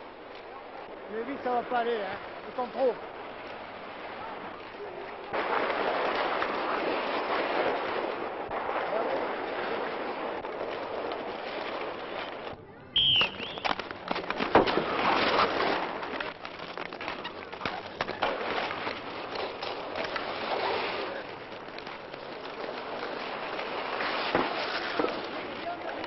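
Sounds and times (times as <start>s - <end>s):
skate wheels rolling on asphalt: 0.0s - 26.0s.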